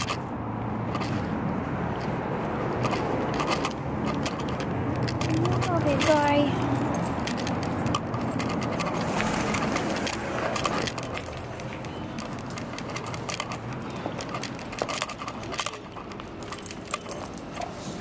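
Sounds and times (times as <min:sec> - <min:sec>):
light metallic jingling: 0:03.6 - 0:18.0.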